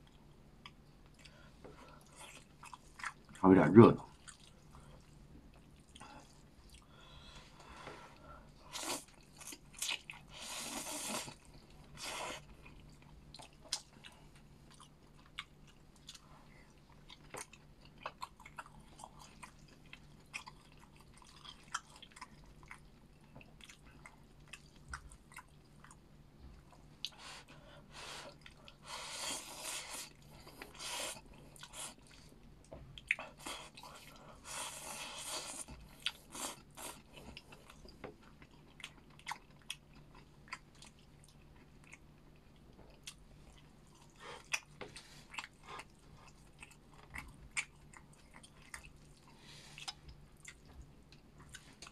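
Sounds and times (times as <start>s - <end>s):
chewing noodles: 0.0s - 3.4s, 4.1s - 7.0s, 8.2s - 51.9s
low steady hum: 0.0s - 51.9s.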